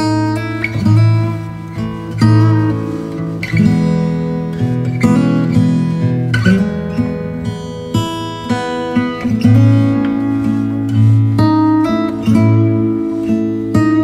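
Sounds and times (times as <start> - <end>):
acoustic guitar plucked and strummed: 0.0 - 14.0.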